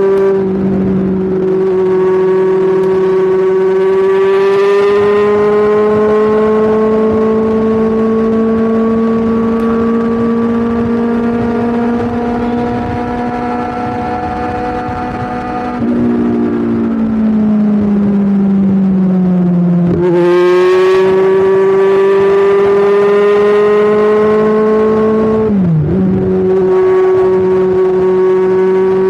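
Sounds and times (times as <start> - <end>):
motorcycle engine revving under load: 0.0 - 29.0.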